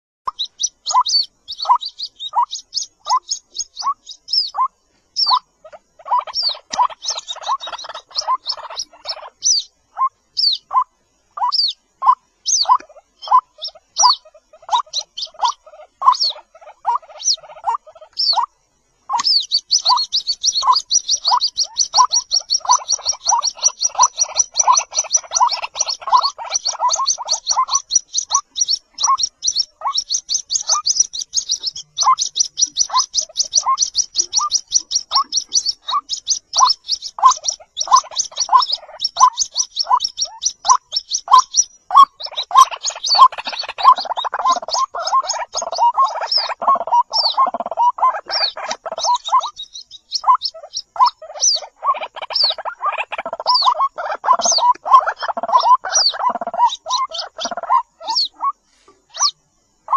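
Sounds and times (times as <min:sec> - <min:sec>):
bird chicks chirping: 0:00.3 - 0:59.9.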